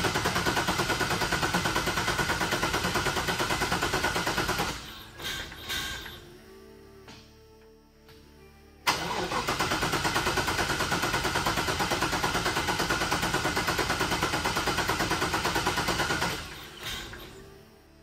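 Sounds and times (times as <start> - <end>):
engine cranking without starting: 0.0 - 6.2, 8.9 - 17.4.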